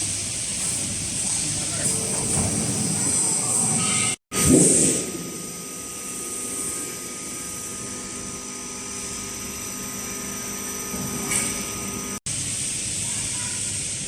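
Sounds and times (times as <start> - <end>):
washing machine mechanical whir: 0.0 - 4.2, 5.0 - 14.0.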